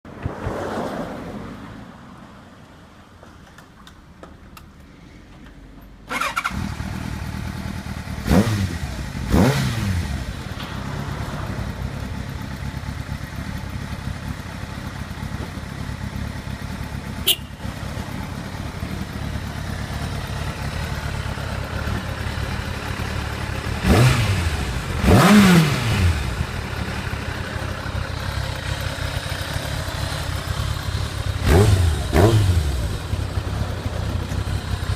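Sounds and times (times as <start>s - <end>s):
motorcycle engine idling and revving: 3.4s - 34.9s.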